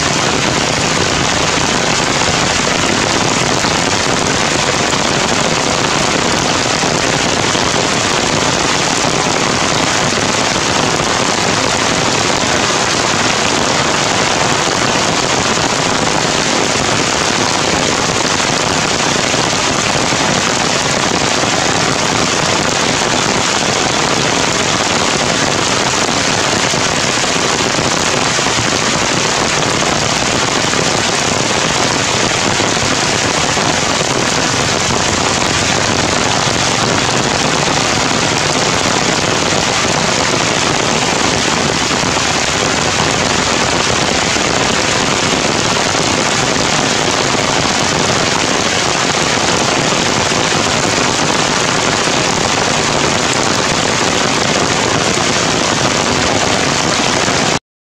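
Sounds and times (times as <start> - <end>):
heavy rain on forest canopy: 0.0 - 57.6.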